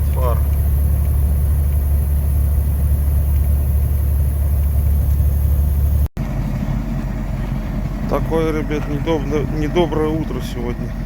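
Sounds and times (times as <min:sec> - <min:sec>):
road noise: 0:00.0 - 0:11.0
truck diesel engine drone: 0:00.0 - 0:11.0.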